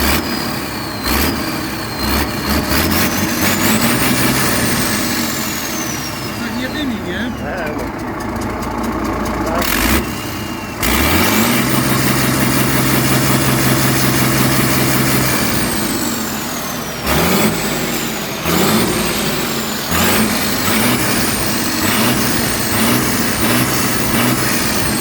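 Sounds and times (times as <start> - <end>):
turbocharger whistle: 0.0 - 8.0, 9.4 - 25.0
diesel engine revving: 0.0 - 25.0.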